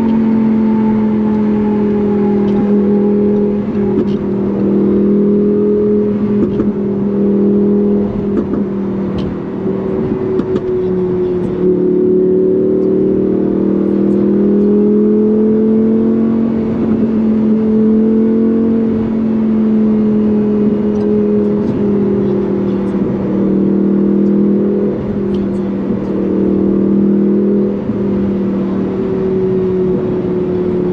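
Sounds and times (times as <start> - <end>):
sports car engine running: 0.0 - 30.9.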